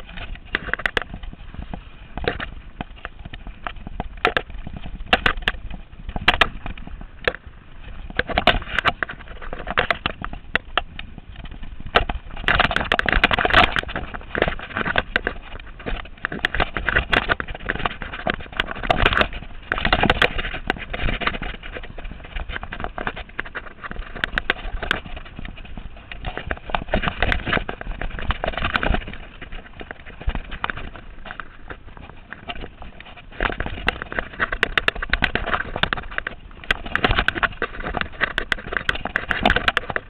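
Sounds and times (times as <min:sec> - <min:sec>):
bike knocks and rattles over rocks: 0:00.0 - 0:40.0
tyre and wind rush: 0:00.0 - 0:40.0.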